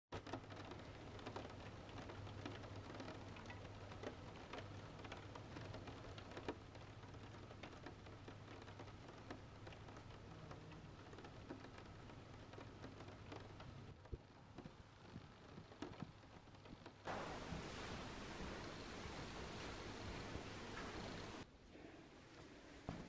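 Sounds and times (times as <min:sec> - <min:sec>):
light rain pattering: 0:00.1 - 0:23.0
water drips: 0:00.2 - 0:21.5.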